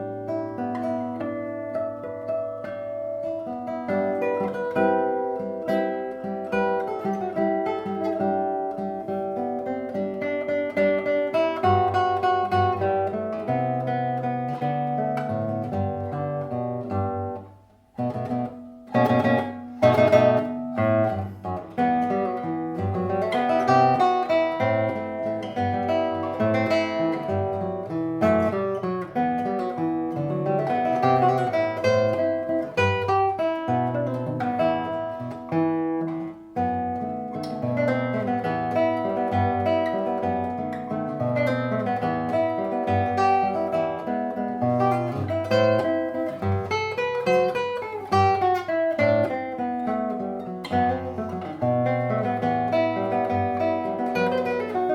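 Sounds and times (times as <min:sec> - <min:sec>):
solo guitar playing waltz: 0:00.0 - 0:54.9.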